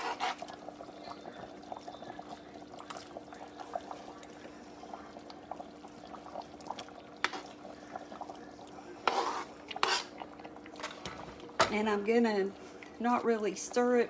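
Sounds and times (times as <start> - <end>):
low steady hum: 0.0 - 14.0
stew bubbling: 0.0 - 14.0.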